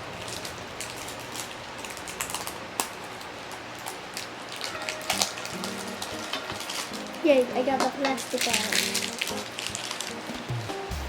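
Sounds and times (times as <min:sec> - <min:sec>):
plastic wrapping crinkling: 0:00.0 - 0:10.8.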